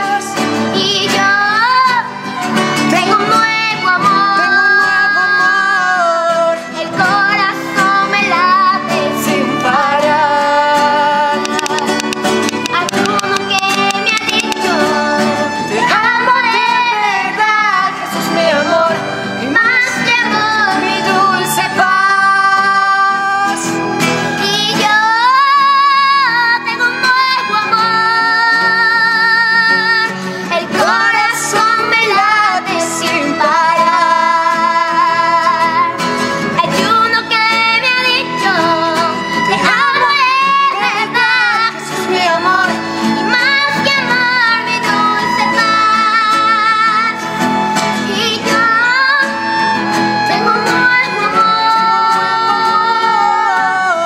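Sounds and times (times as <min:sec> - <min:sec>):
boy singing a slow ballad: 0:00.0 - 0:02.2, 0:02.8 - 0:12.1, 0:12.7 - 0:47.3, 0:48.0 - 0:54.0
strummed acoustic guitars: 0:00.0 - 0:54.0.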